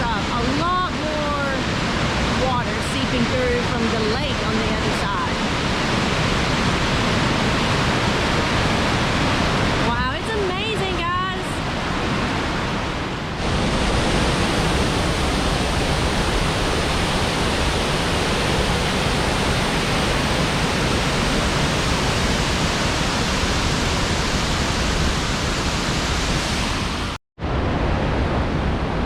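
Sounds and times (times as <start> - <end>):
rush of falling water: 0.0 - 29.0.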